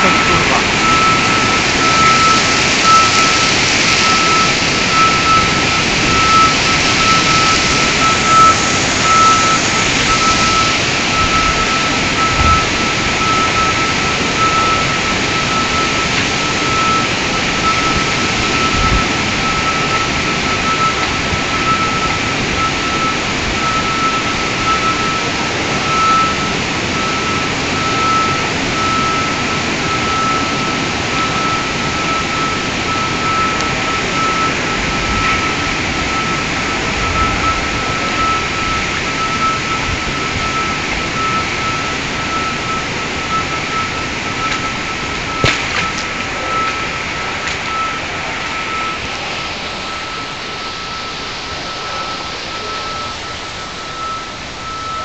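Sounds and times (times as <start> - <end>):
electronic alarm beeping: 0.0 - 55.0
water rushing: 0.0 - 55.0.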